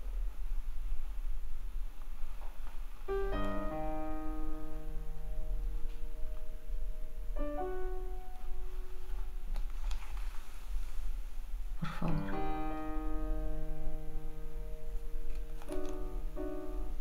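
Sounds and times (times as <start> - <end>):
low steady hum: 0.0 - 17.0
soft piano notes: 0.0 - 17.0.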